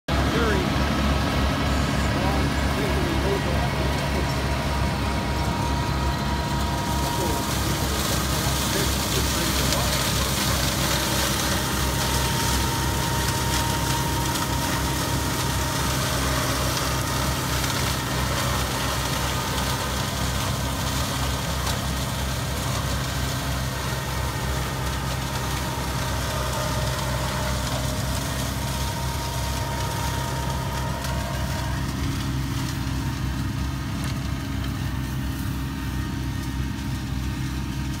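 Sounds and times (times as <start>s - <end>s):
tractor diesel engine under load: 0.0s - 38.0s
flail mulcher shredding vegetation: 0.1s - 38.0s.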